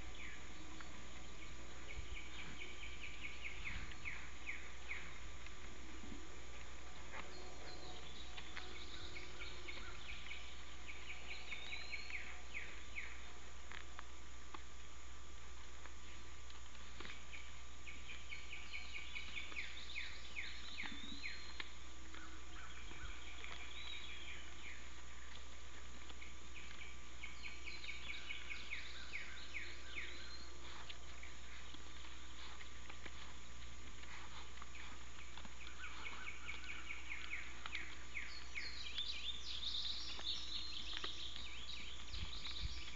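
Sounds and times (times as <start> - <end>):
small birds chirping: 0.0 - 42.9
steady low hum: 0.0 - 42.9.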